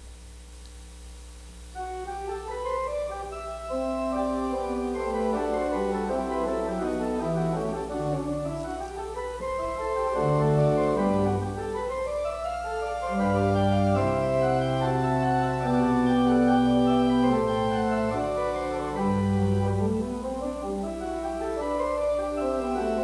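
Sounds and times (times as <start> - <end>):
church organ playing: 1.8 - 23.0.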